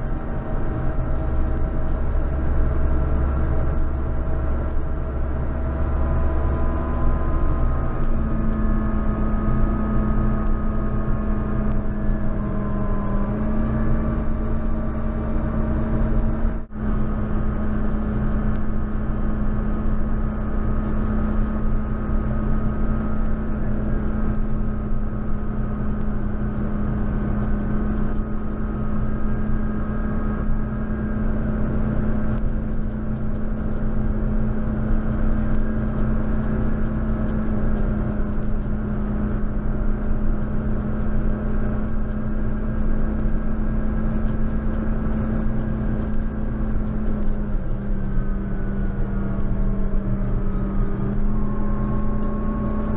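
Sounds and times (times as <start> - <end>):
tractor diesel engine droning: 0.0 - 52.9.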